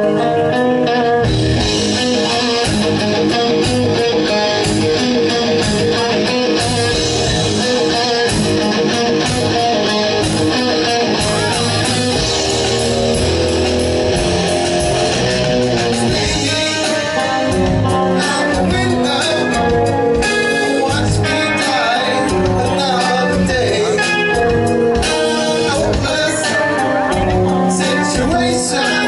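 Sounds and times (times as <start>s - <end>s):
electric guitar: 0.0s - 29.0s
heavy metal band playing: 0.0s - 29.0s.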